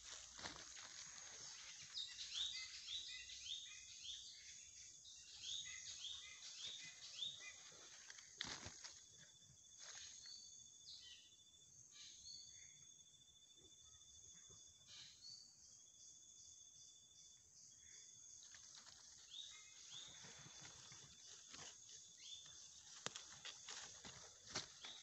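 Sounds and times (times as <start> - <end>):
high insect trill: 0.0 - 25.0.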